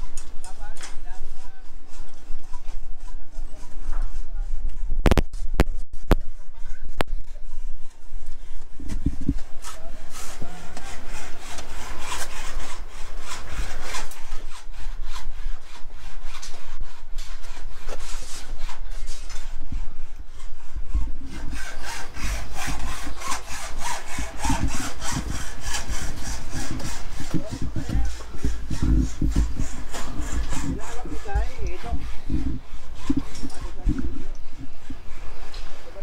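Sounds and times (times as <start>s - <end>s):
hand saw rasping: 0.0s - 4.5s, 7.5s - 35.8s.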